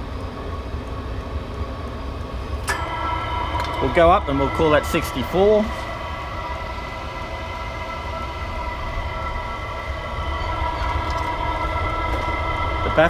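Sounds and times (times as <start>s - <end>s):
combustion fan whine: 0.0s - 13.0s
heater exhaust low rumble: 0.0s - 13.0s.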